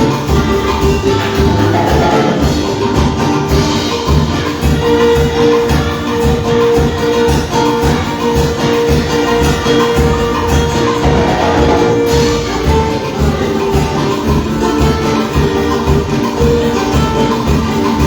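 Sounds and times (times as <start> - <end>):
shaken percussion: 0.0 - 18.0
upbeat instrumental band music: 0.0 - 18.0.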